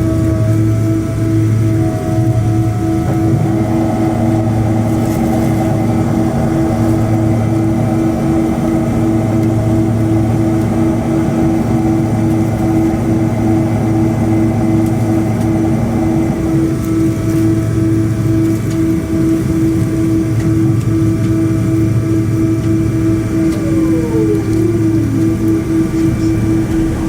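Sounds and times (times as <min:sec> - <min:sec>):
jet engines humming in cabin: 0:00.0 - 0:27.0
pulsing tone: 0:00.0 - 0:27.0.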